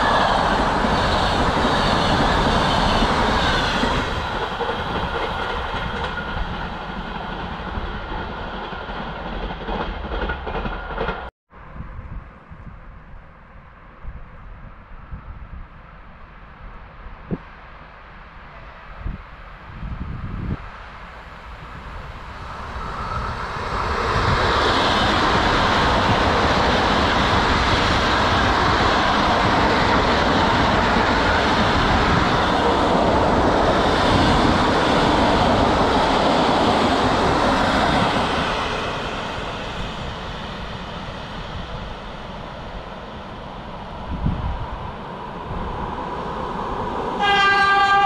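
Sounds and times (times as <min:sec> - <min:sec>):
train rushing past: 0:00.0 - 0:11.3, 0:17.9 - 0:48.0.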